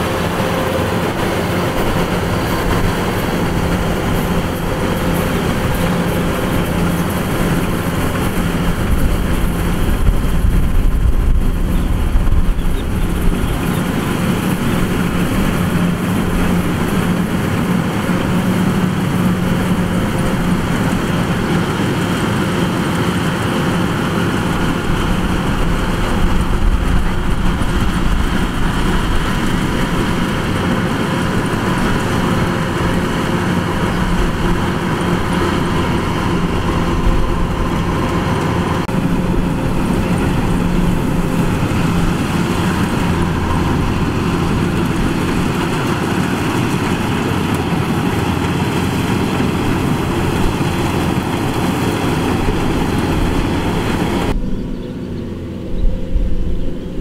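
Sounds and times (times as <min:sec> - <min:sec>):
combine harvester mechanical drone: 0:00.0 - 0:57.0.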